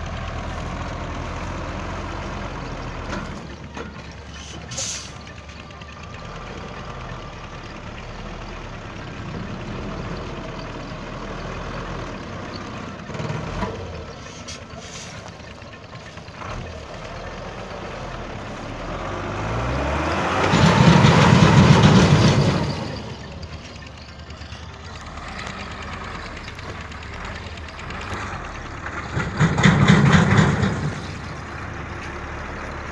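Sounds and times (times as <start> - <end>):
diesel truck engine revving: 0.0 - 32.9.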